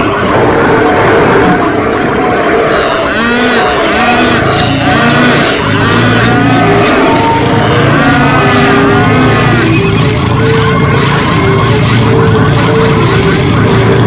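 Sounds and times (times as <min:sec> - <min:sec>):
stampede low rumble: 0:00.0 - 0:14.0
overlapping animal calls: 0:01.4 - 0:13.2.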